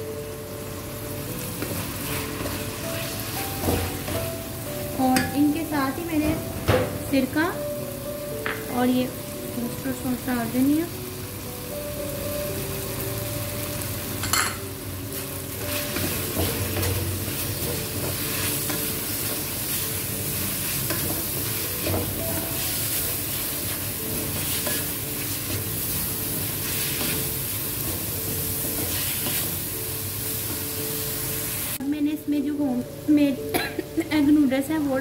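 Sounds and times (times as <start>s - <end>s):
food sizzling in a metal pan: 0.0s - 35.0s.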